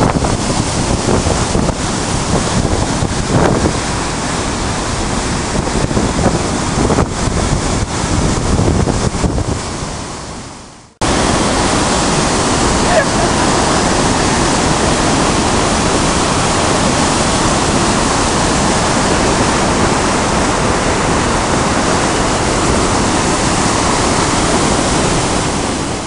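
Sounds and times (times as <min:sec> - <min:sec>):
river rushing through rapids: 0:00.0 - 0:26.0.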